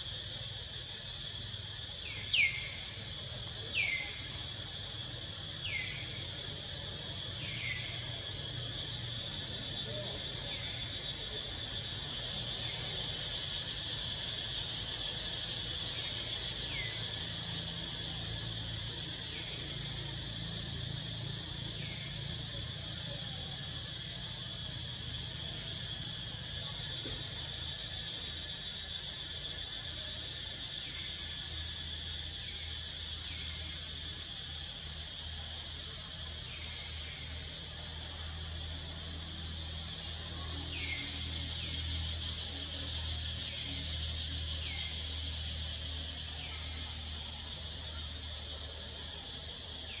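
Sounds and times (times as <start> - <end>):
high-pitched insect chorus: 0.0 - 50.0.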